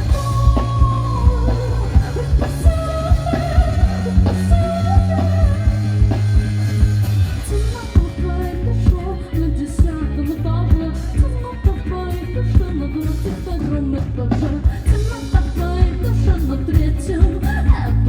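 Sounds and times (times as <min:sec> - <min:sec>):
woman singing: 0:00.0 - 0:06.5, 0:07.4 - 0:18.0
live rock band playing: 0:00.0 - 0:18.0.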